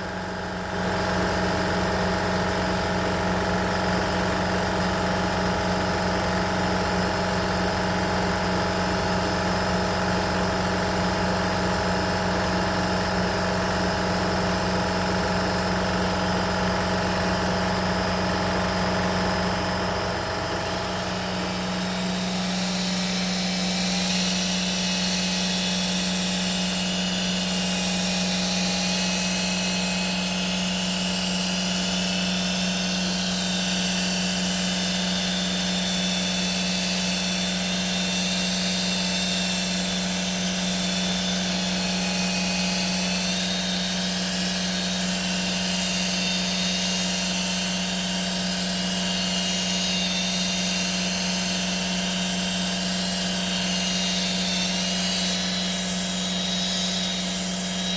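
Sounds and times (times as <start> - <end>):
power tool whining: 0.0 - 57.9.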